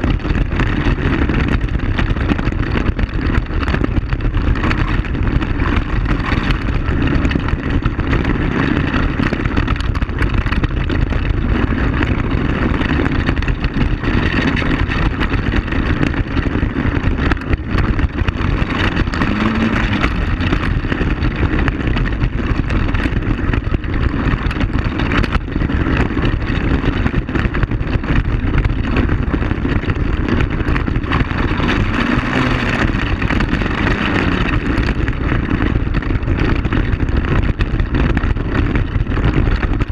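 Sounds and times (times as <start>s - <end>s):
quad bike engine running: 0.0s - 39.9s
small rattles: 0.0s - 39.9s
tyres on gravel: 0.0s - 39.9s.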